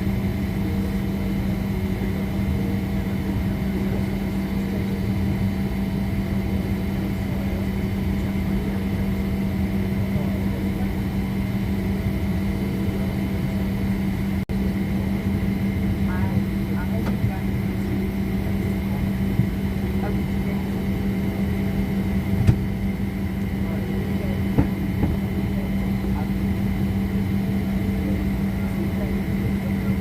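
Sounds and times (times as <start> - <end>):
airliner drone: 0.0 - 30.0.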